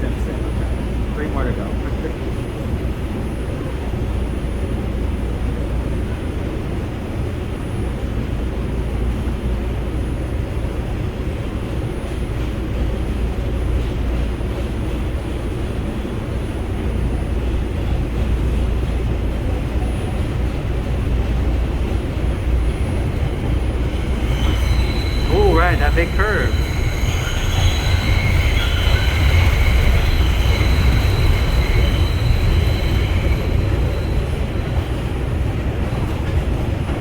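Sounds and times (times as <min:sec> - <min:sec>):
subway car rumbling: 0:00.0 - 0:37.0.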